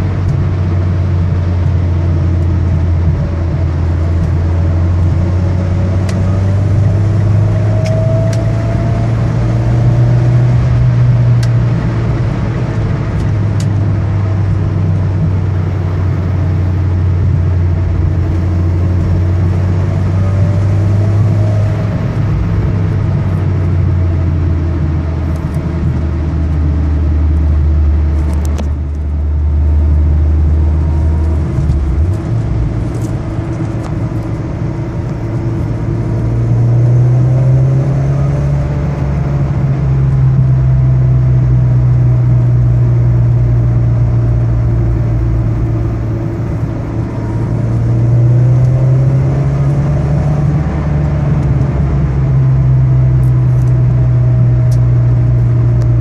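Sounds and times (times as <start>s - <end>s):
car engine pulling steadily: 0.0s - 56.0s.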